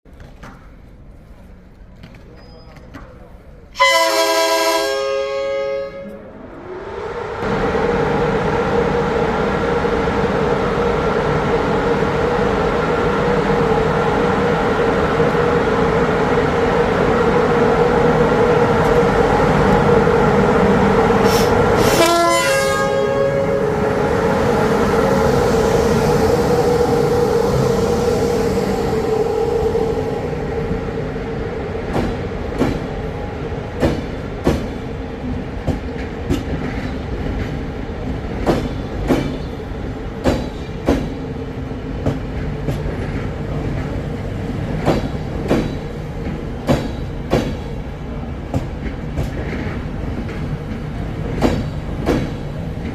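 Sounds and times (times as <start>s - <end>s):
train passing close by: 0.3s - 52.9s.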